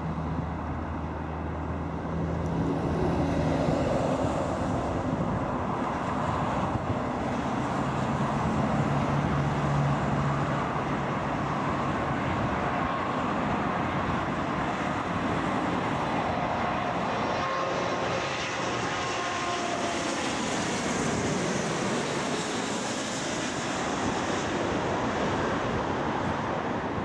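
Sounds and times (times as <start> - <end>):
jet engine roar overhead: 0.0 - 27.0.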